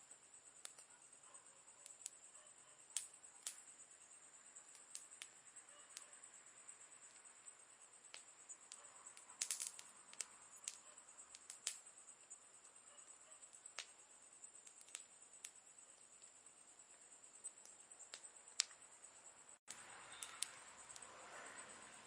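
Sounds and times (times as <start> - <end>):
campfire wood crackling: 0.0 - 22.0.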